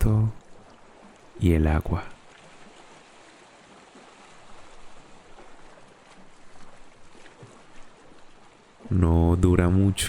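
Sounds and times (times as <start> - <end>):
sea waves washing: 0.0 - 10.0.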